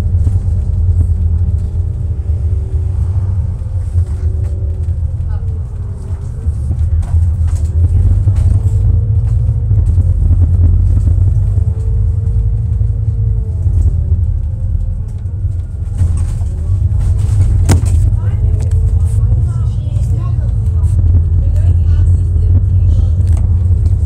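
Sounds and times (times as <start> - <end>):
bus engine rumble with whine: 0.0 - 24.0.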